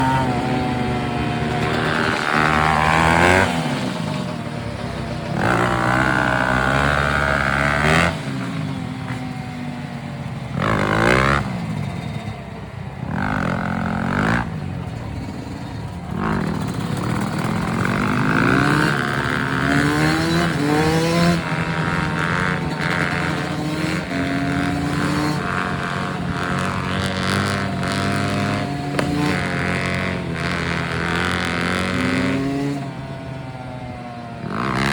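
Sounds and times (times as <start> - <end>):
dirt bike engine revving: 0.0 - 9.2, 10.5 - 12.0, 13.0 - 15.2, 16.0 - 33.2, 34.4 - 34.9.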